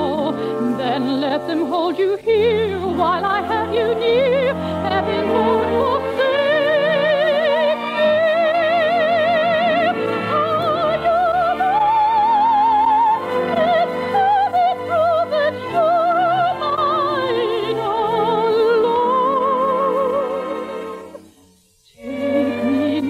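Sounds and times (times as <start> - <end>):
soprano singing with vibrato: 0.0 - 21.2, 21.9 - 23.0
light orchestral accompaniment: 0.0 - 23.0.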